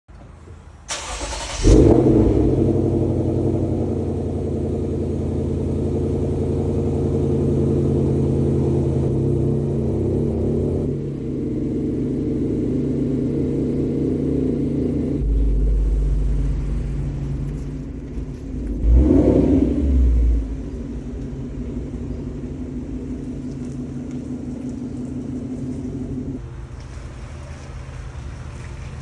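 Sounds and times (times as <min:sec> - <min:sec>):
car engine starting and idling: 0:00.2 - 0:29.0.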